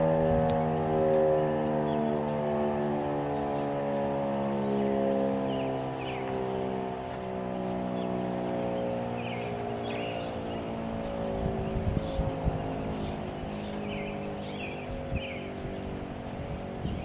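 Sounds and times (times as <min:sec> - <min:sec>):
warning siren winding down: 0:00.0 - 0:17.0.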